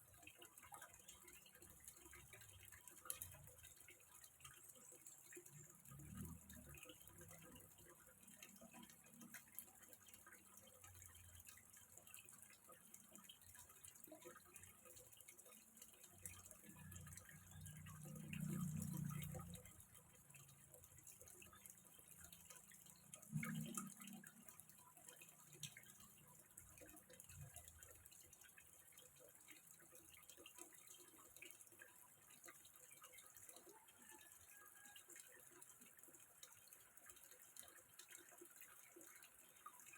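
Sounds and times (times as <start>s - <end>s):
water drips: 0.0s - 39.9s
water trickling in a pond: 0.0s - 39.9s.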